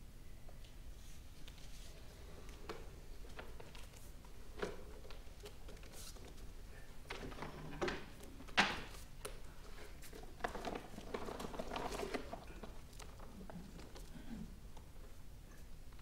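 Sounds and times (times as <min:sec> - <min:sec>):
rustling and light knocks: 0:00.4 - 0:15.2.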